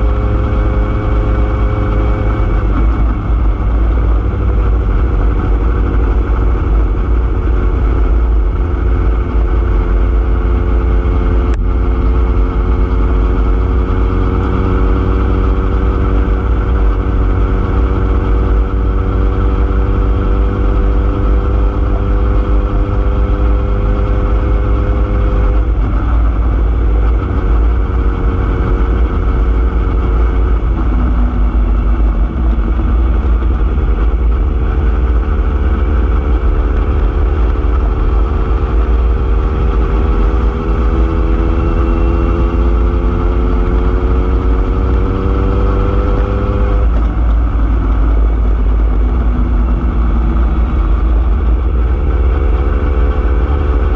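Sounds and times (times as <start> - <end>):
vehicle engine running: 0.0 - 53.9
wind rumble on microphone: 0.0 - 53.9.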